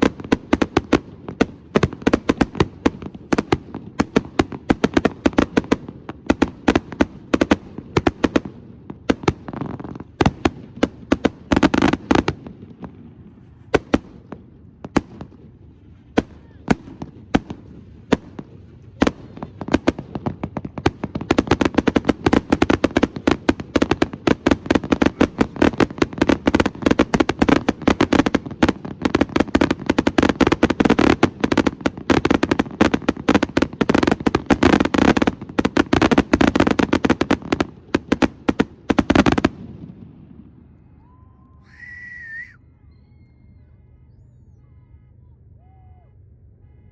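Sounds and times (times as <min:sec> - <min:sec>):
rapid barrage of firework reports: 0:00.0 - 0:40.7.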